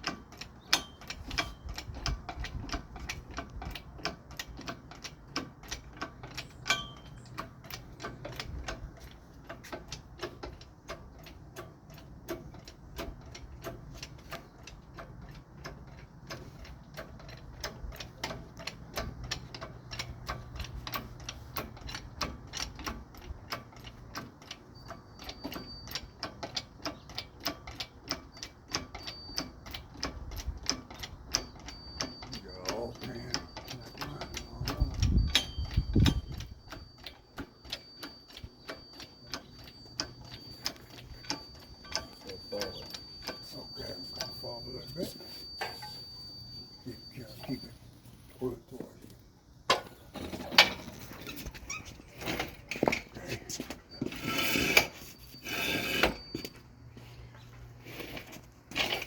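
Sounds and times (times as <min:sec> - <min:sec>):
ratchet clicking: 0:00.0 - 0:47.6, 0:54.0 - 0:56.5.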